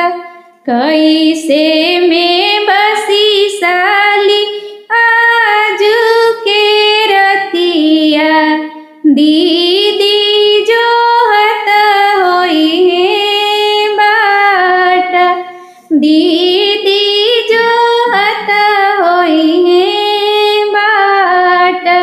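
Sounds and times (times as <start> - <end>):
woman singing folk song: 0.0 - 22.0.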